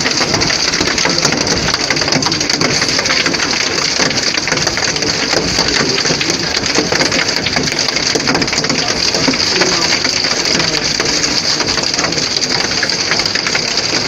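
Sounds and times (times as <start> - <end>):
hail clattering: 0.0 - 14.0
rain hissing: 0.0 - 14.0.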